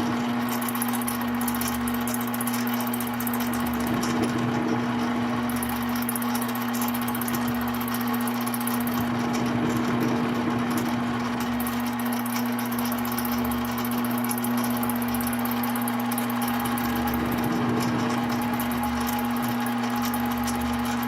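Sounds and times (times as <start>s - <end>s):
lathe motor whine: 0.0s - 21.0s.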